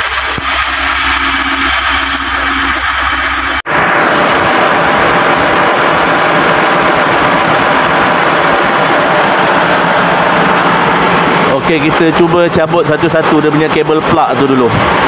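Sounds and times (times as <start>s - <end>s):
car engine idling unevenly: 0.0s - 14.7s.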